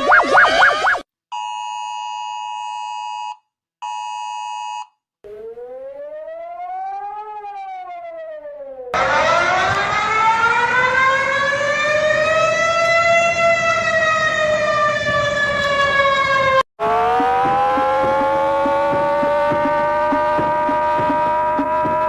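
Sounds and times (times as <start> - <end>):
warning siren wailing: 0.0 - 1.0, 5.2 - 22.0.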